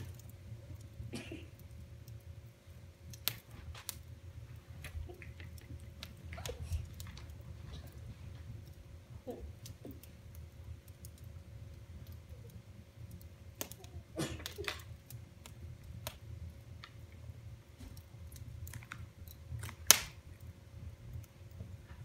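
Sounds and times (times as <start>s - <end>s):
fire crackling with pops: 0.0s - 22.0s
low fire rumble: 0.0s - 22.0s.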